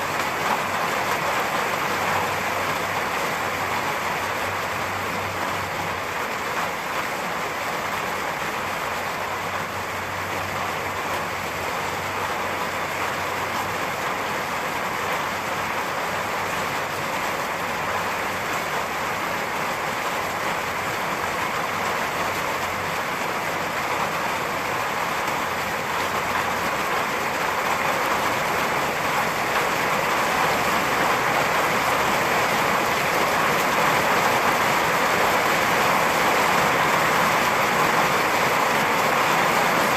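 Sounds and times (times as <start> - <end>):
dense rainfall hissing: 0.0 - 39.9.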